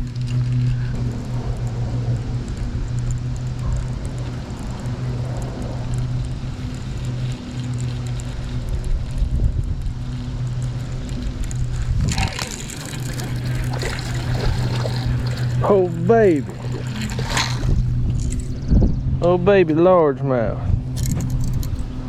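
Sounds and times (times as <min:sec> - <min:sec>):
low mechanical hum: 0:00.0 - 0:22.0
wind rumbling on microphone: 0:00.0 - 0:22.0.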